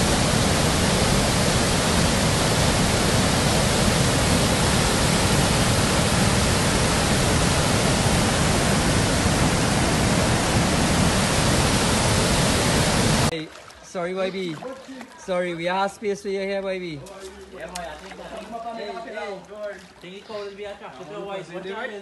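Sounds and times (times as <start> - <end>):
rushing river water: 0.0 - 22.0.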